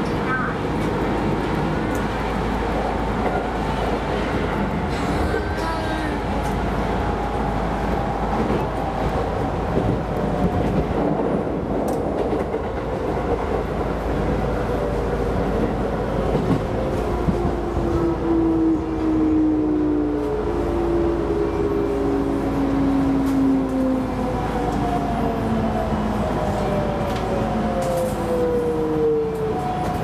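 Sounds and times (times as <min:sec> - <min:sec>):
train rumble and track clatter: 0:00.0 - 0:30.0.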